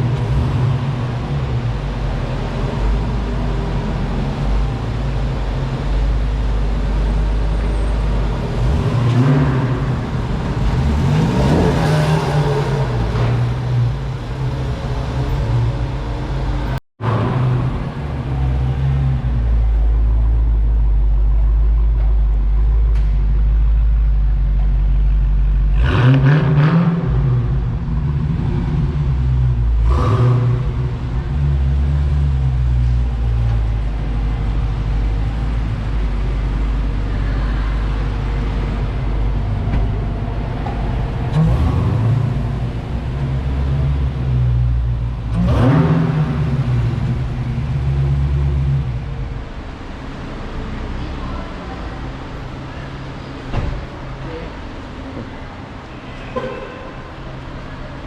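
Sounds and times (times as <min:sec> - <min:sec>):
car engine rumbling: 0:00.0 - 0:58.0.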